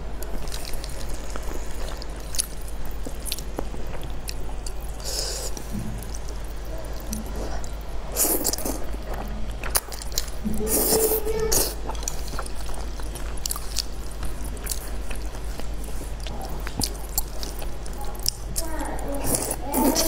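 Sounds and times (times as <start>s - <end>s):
wet chewing: 0.2s - 20.0s.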